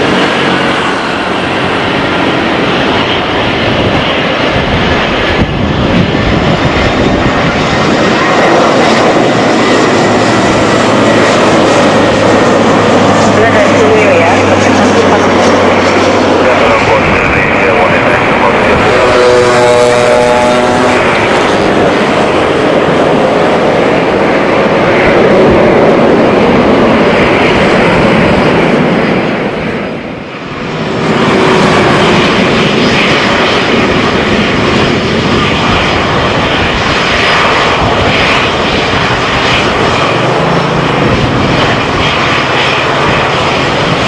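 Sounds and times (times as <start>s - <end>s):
jet engines at taxi power: 0.0s - 44.0s
jet engines running: 0.0s - 44.0s.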